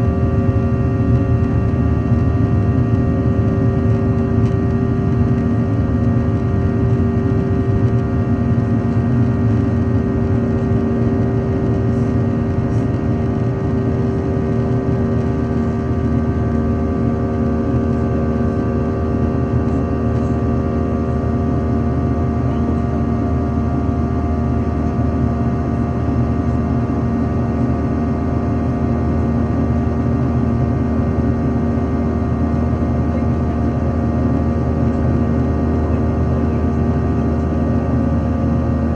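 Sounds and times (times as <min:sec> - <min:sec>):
airliner engines droning: 0:00.0 - 0:38.9.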